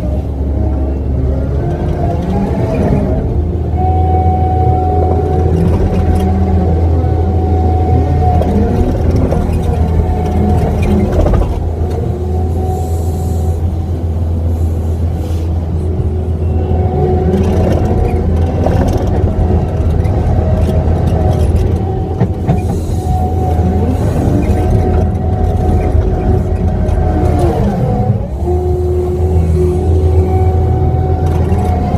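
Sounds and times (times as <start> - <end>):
diesel engine droning: 0.0 - 31.9.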